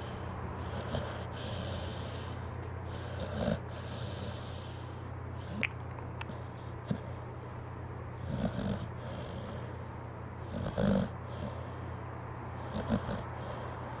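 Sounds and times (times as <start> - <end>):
dog snoring: 0.0 - 5.6, 6.2 - 7.2, 8.2 - 14.0.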